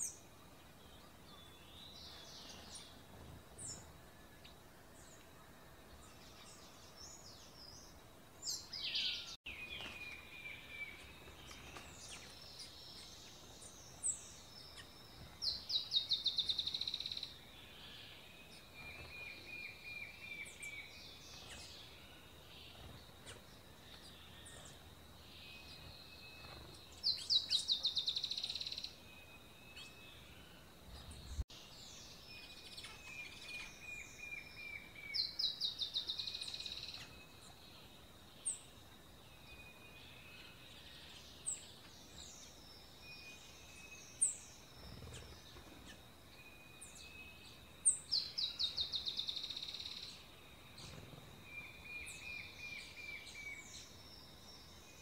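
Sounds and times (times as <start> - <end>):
faint steady high whine: 0.0 - 55.0
songbirds singing: 0.0 - 55.0.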